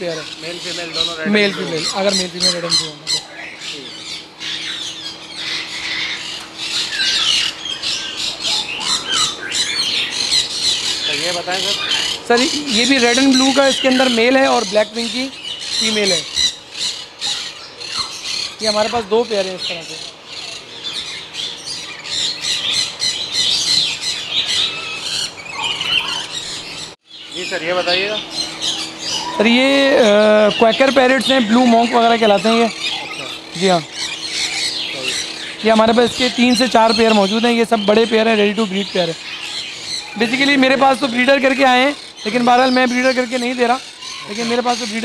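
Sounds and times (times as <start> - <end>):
parrots screeching and squawking: 0.0 - 45.0.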